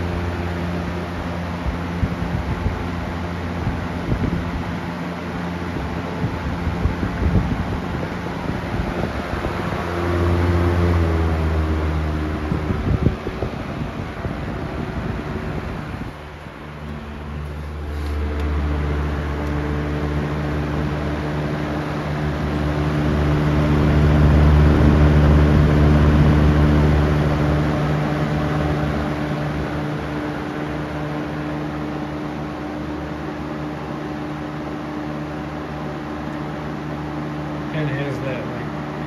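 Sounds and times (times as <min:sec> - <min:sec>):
box fan running: 0:00.0 - 0:39.0.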